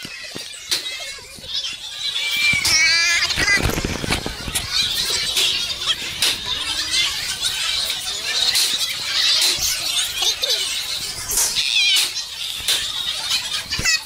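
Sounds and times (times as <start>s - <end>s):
crowd chattering and shouting: 0.0s - 14.0s.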